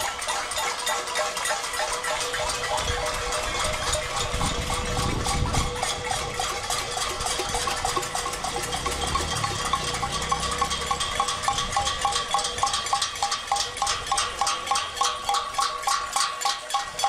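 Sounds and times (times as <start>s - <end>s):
metal pots clanging: 0.0s - 17.0s.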